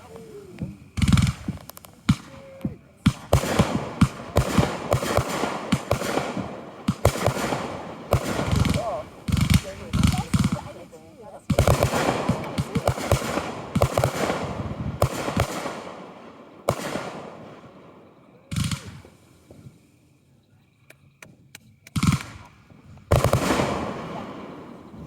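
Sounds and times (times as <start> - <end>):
sharp firework cracks: 0.0 - 19.7, 21.9 - 25.0
fireworks booms: 0.0 - 20.0, 21.9 - 25.0.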